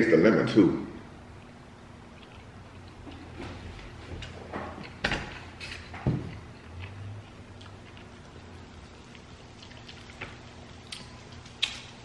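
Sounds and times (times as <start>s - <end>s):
person chewing: 1.3s - 12.0s.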